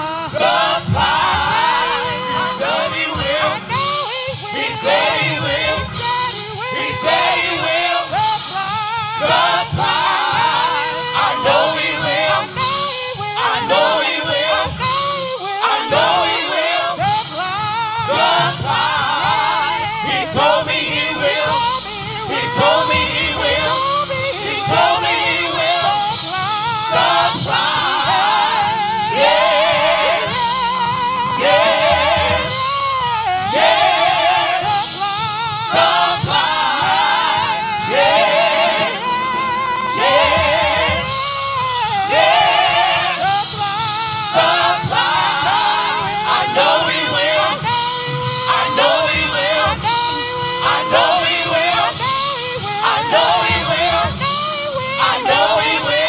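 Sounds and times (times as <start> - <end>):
backing music: 0.0 - 56.0
choir singing with vibrato: 0.0 - 56.0.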